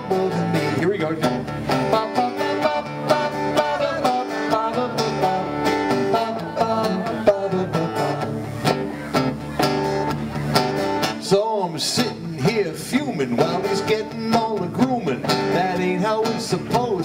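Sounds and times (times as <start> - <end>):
bass line: 0.0 - 17.0.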